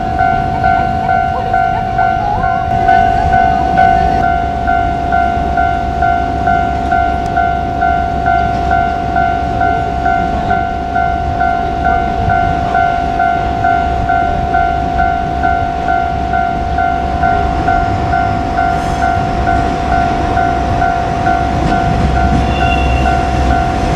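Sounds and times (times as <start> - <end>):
diesel railcar rumble: 0.0 - 23.9
level crossing bell dinging: 0.0 - 23.9.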